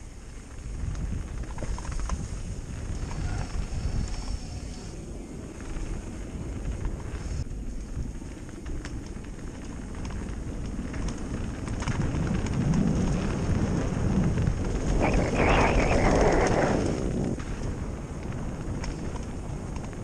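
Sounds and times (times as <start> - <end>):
bike tyres rolling on gravel: 0.0 - 20.0
stones clicking and bike rattle: 0.0 - 20.0
wind on microphone: 0.0 - 20.0.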